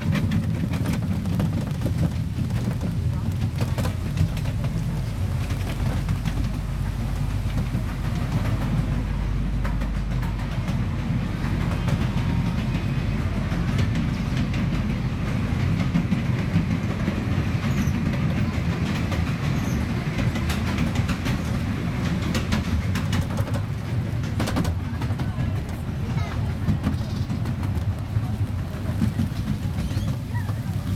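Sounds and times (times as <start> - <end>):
small train rumbling and rattling: 0.0 - 30.9
wheels clicking on track: 0.0 - 30.9.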